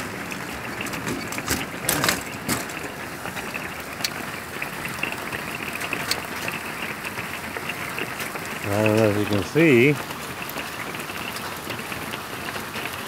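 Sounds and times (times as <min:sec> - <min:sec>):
hail and rain on roof: 0:00.0 - 0:13.0.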